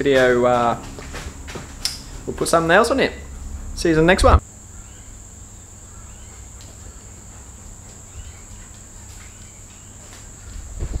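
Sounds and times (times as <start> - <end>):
low hum: 0.0 - 11.0
insect trilling: 1.9 - 11.0.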